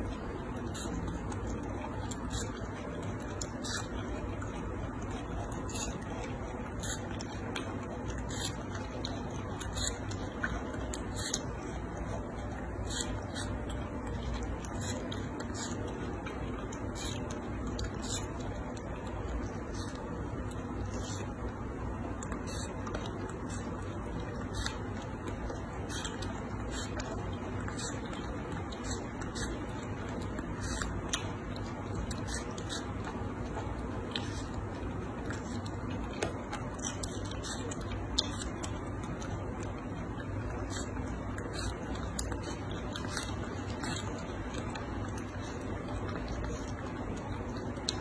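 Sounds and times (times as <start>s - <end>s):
monkey chewing watermelon: 0.0s - 48.0s.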